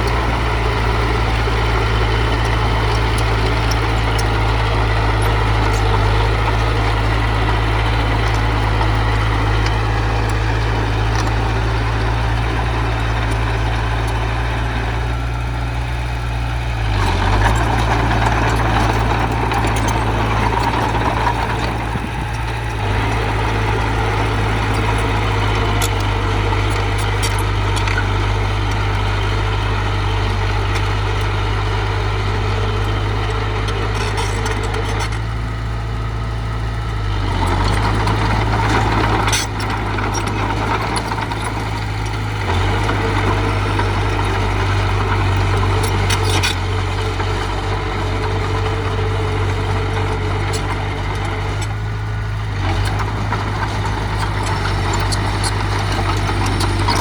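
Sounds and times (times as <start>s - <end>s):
heavy machinery diesel engine running: 0.0s - 57.0s.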